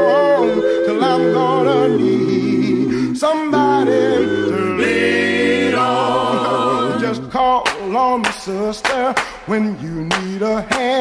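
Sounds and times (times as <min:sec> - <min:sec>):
a cappella group singing: 0:00.0 - 0:11.0.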